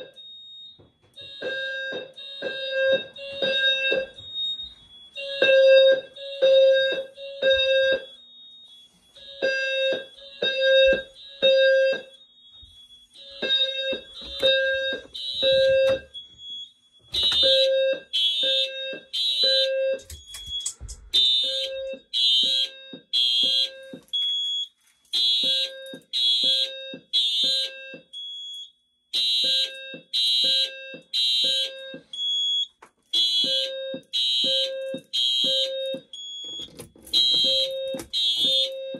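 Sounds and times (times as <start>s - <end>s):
fire alarm buzzy blasts: 0.0s - 38.9s.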